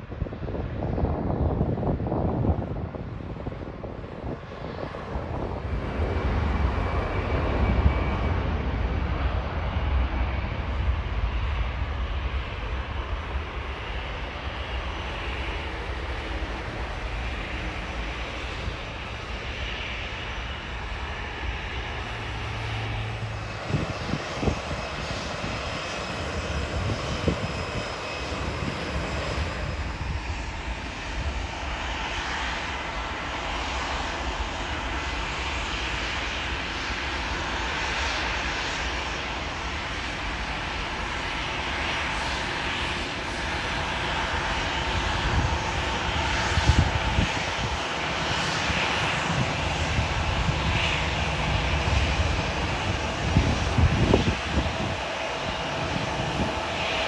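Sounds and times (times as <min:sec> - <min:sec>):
aircraft engine rumble: 0:00.0 - 0:57.0.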